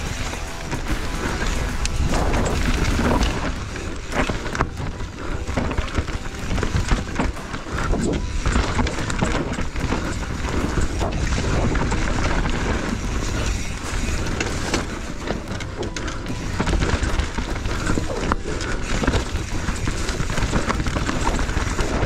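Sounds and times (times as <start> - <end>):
bike knocks and rattles: 0.0 - 22.0
tyres over dirt and rock: 0.0 - 22.0
wind rushing over microphone: 0.0 - 22.0.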